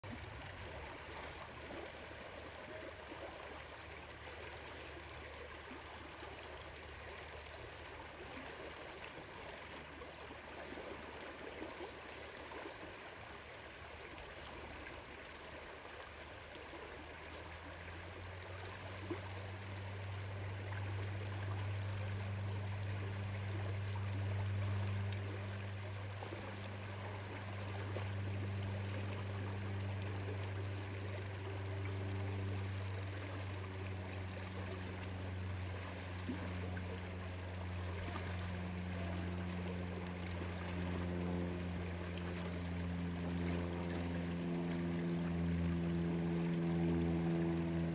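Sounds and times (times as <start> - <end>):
low steady drone: 0.0 - 47.9.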